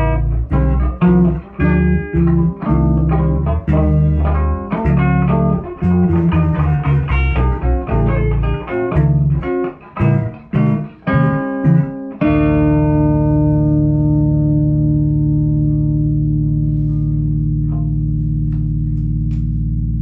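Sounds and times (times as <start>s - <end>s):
guitar plucking notes: 0.0s - 20.0s
low bass line: 0.0s - 20.0s.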